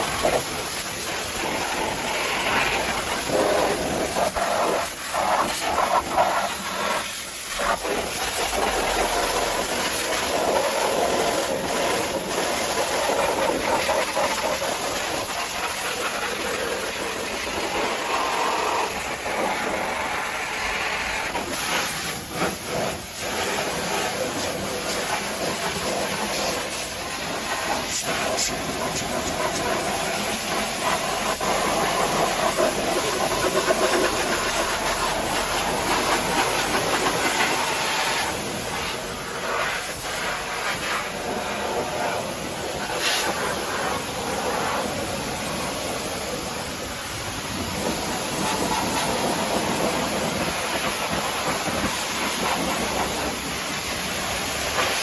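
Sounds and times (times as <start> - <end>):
pressure washer spraying vehicle: 0.0 - 55.0.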